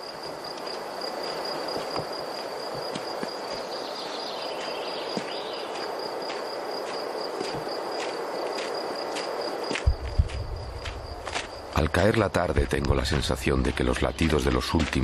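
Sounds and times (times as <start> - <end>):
footsteps on a dirt path: 0.0 - 15.0
insect trill: 0.0 - 15.0.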